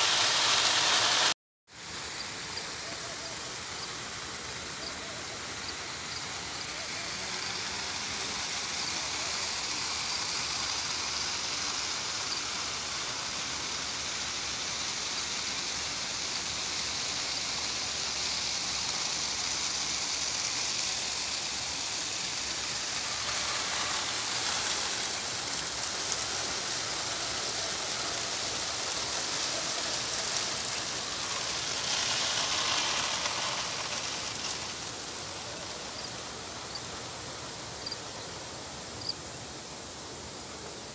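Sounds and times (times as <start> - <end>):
sprinklers spraying water: 0.0 - 40.9.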